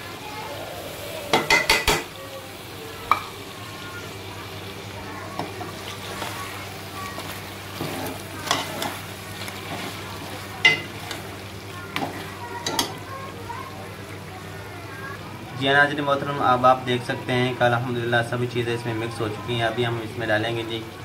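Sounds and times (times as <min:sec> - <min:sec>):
food sizzling in a pot: 0:00.0 - 0:21.0.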